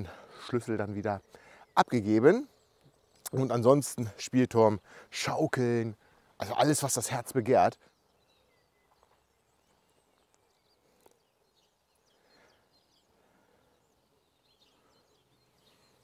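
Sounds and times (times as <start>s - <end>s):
distant bird chirps: 0.0s - 16.0s.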